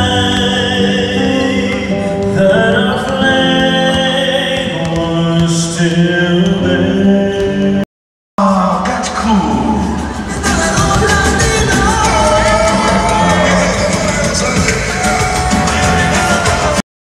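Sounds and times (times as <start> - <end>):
man singing into a microphone: 0.0 - 7.8, 10.3 - 16.8.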